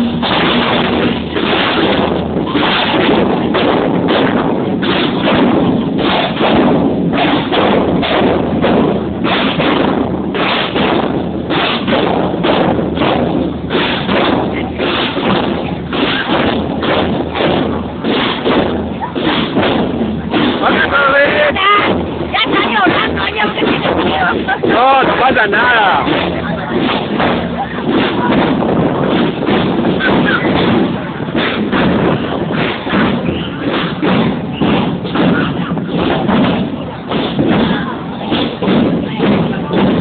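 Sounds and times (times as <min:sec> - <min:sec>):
marching snare and bass drum: 0:00.0 - 0:40.0.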